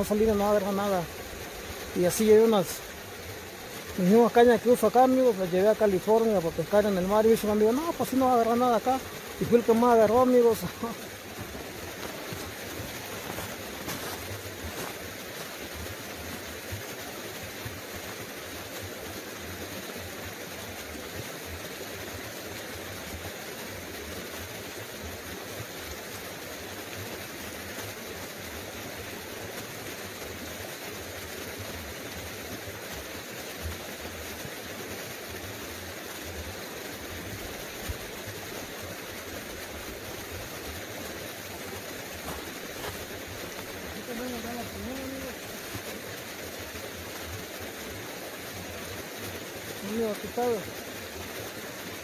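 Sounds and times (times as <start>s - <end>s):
creek water flowing: 0.0s - 52.0s.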